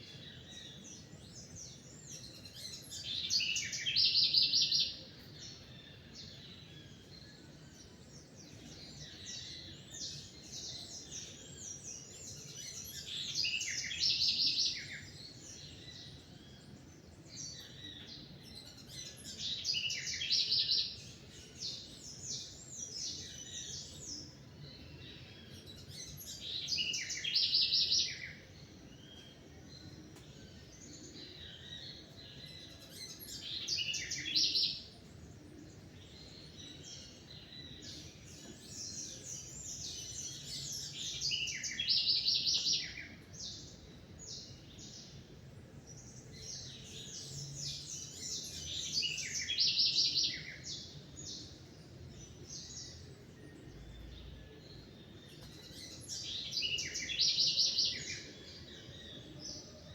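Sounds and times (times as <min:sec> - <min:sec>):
quiet bird chirps: 0:00.0 - 0:59.9.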